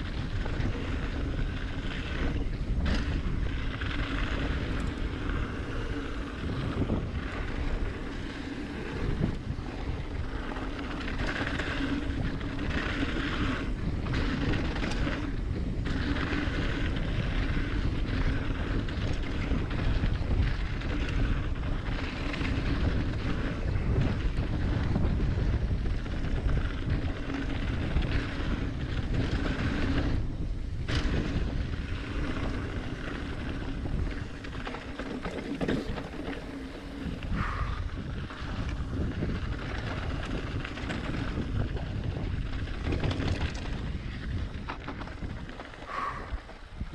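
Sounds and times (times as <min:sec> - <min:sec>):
bike tyres rolling on dirt trail: 0:00.0 - 0:46.9
wind on microphone: 0:00.0 - 0:46.9.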